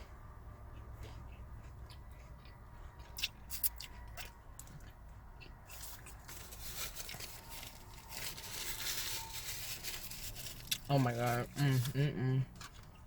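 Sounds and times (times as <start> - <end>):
crunchy chewing of fried food: 0.0 - 13.0.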